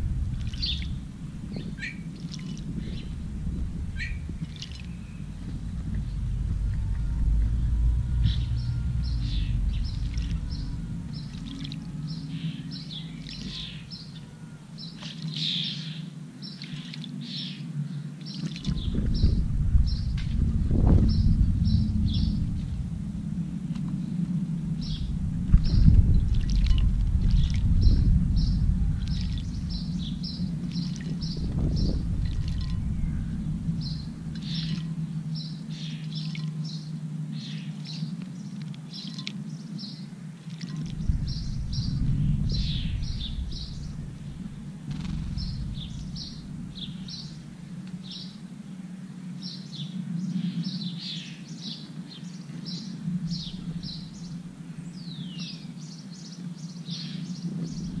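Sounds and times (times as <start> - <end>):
small birds chirping: 0.0 - 23.0, 23.7 - 48.4, 49.4 - 58.0
low background rumble: 0.0 - 58.0.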